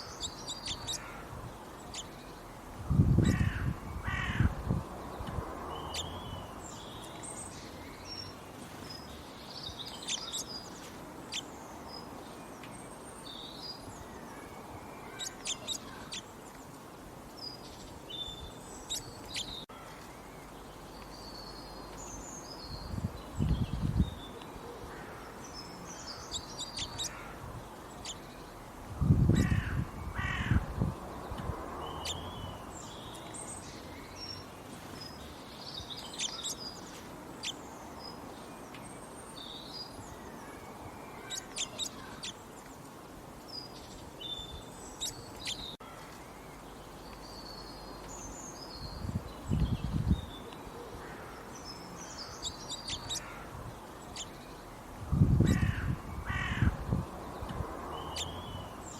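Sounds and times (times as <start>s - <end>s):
birds chirping: 0.0s - 4.5s, 5.1s - 16.8s, 17.4s - 58.9s.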